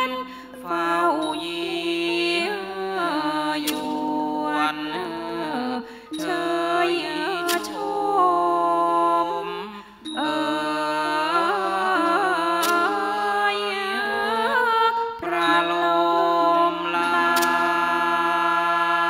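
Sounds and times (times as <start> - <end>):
person singing melismatic line: 0.0 - 19.0.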